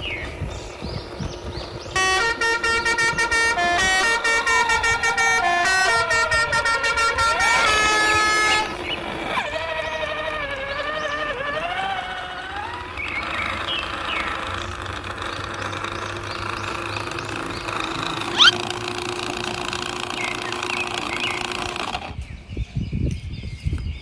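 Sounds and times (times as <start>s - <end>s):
truck horn honking: 1.9s - 22.1s.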